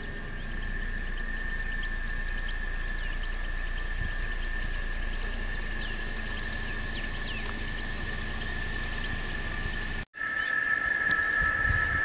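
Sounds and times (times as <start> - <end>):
downward-gliding bird calls: 0.0 - 12.0
high-pitched drone: 0.0 - 12.0
low rumble: 0.0 - 12.0.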